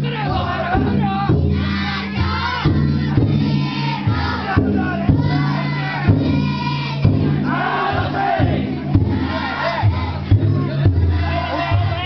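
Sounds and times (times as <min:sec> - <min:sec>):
big drum strikes: 0:00.0 - 0:12.0
crowd shouting a chant: 0:00.0 - 0:12.0.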